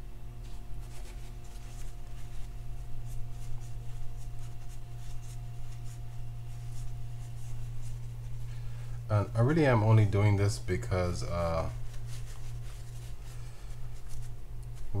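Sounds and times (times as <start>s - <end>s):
steady low hum: 0.0s - 15.0s
paper towel rubbing: 0.4s - 15.0s.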